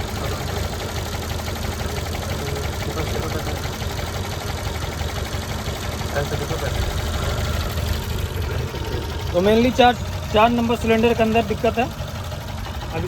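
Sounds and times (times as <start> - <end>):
car engine idling with misfire: 0.0 - 13.0.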